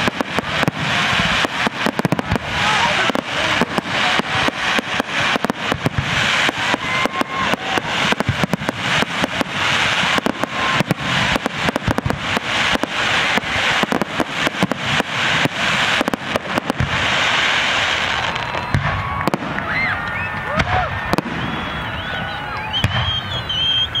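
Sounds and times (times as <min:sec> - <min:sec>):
fireworks bursting: 0:00.0 - 0:24.0
fireworks crackling hiss: 0:00.0 - 0:24.0.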